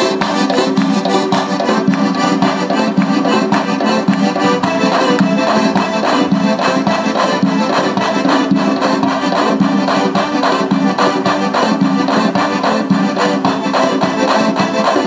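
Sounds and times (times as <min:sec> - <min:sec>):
fast folk dance music: 0:00.0 - 0:15.0.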